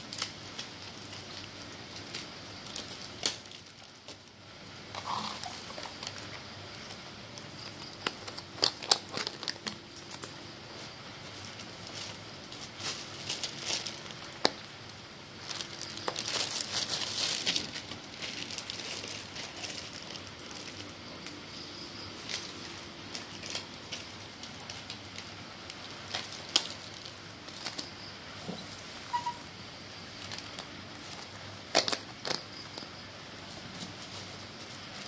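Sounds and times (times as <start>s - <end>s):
plastic film crinkling: 0.0s - 32.9s, 33.5s - 35.0s.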